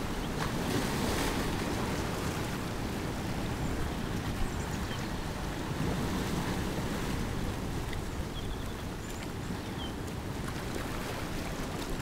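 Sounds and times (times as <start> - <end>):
sea surf washing among boulders: 0.0 - 12.0.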